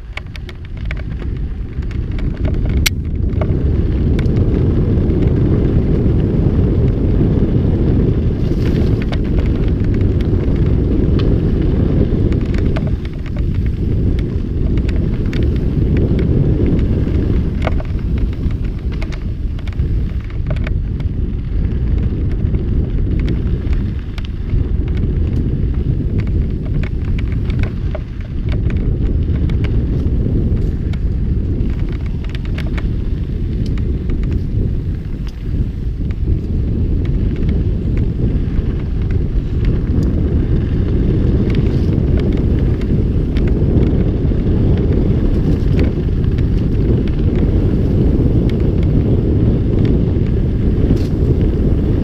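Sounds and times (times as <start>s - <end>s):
bike clicks and rattles: 0.0s - 52.0s
wind rumble on microphone: 0.0s - 52.0s.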